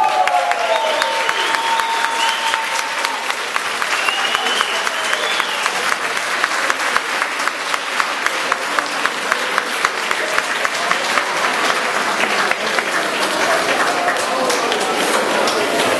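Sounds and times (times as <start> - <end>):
audience applauding: 0.0 - 15.9
rhythmic sharp claps: 0.0 - 15.9.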